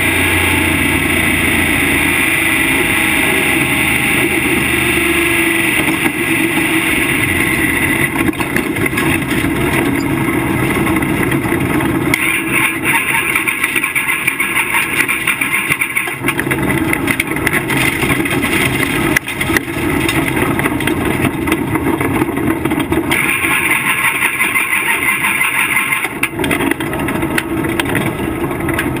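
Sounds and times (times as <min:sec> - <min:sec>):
race car engine running hard: 0:00.0 - 0:29.0.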